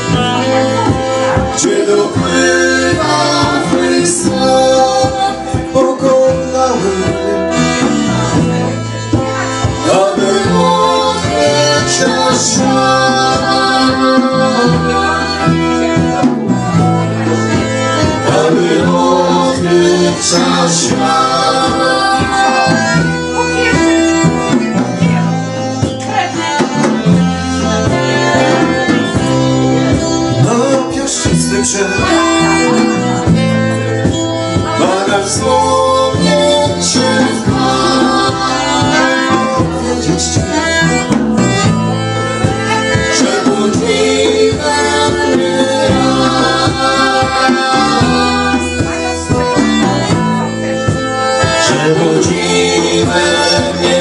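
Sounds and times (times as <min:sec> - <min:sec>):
accordion: 0:00.0 - 0:54.0
acoustic guitar: 0:00.0 - 0:54.0.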